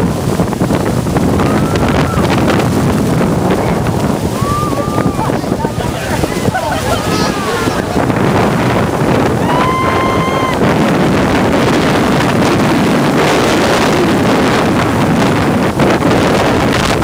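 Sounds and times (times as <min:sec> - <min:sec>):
waterfall rushing: 0:00.0 - 0:17.0
wind buffeting microphone: 0:00.0 - 0:17.0.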